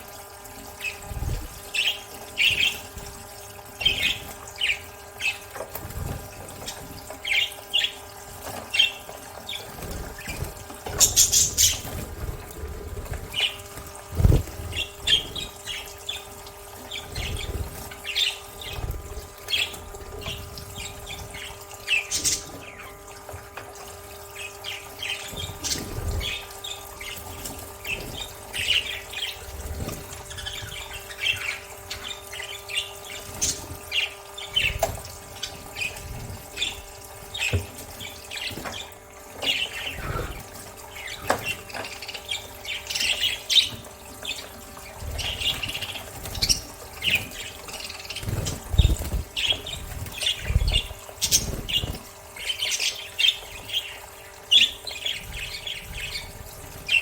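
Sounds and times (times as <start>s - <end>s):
budgerigars chirping and squawking: 0.7s - 3.1s, 3.8s - 23.4s, 24.2s - 57.0s.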